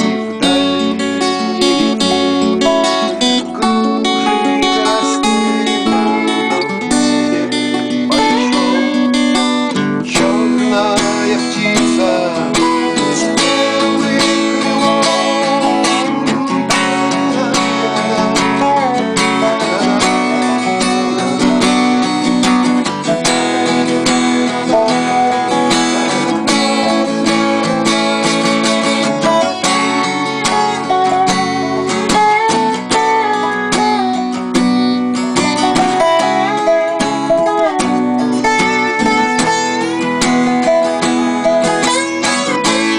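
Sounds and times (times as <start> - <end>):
acoustic guitar fingerpicked: 0.0 - 42.9
resonator slide guitar: 0.0 - 42.9.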